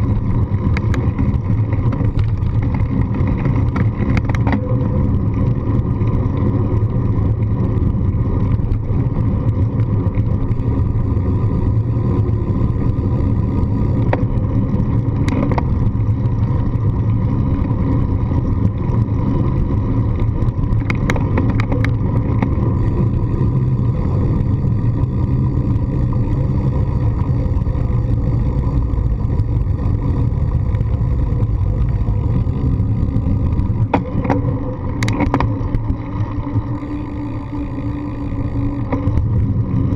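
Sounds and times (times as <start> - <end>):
bicycle rolling over brick pavers: 0.0 - 39.9
wind rumble: 0.0 - 39.9.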